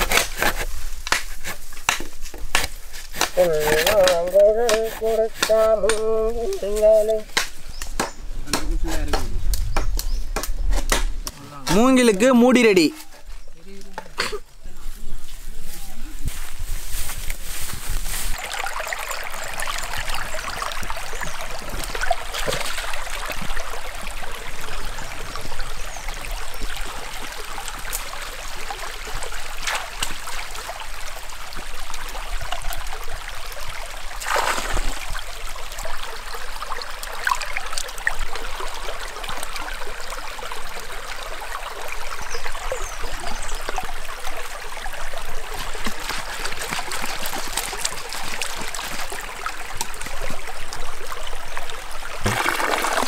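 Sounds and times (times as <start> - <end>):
flowing water: 0.0 - 9.5, 11.2 - 14.7, 17.0 - 53.0.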